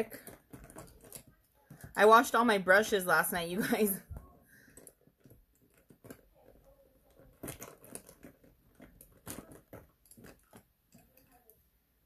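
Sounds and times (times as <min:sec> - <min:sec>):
makeup items clicking and rustling: 0:00.0 - 0:11.7.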